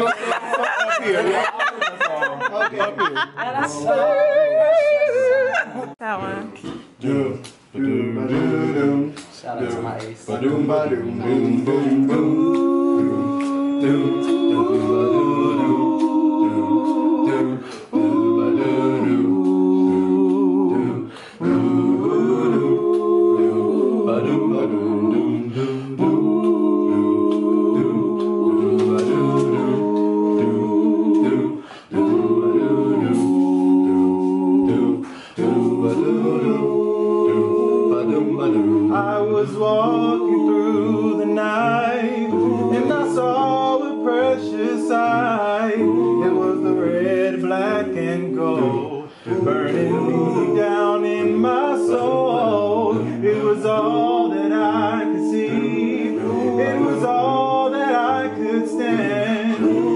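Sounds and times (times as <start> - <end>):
men's chorus singing a cappella: 0.0 - 59.9.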